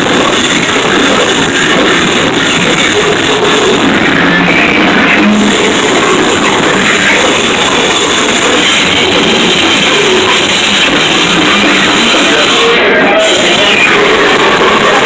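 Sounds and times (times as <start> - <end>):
noise music wall of sound: 0.0 - 15.0.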